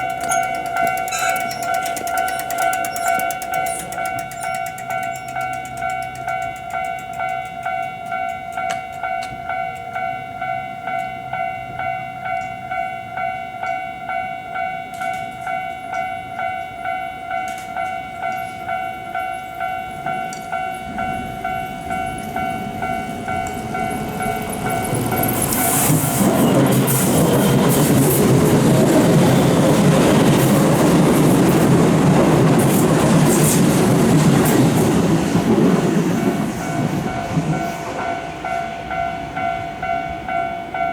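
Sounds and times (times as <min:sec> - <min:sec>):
level crossing warning bell: 0:00.0 - 0:40.9
train rumble: 0:00.0 - 0:40.9.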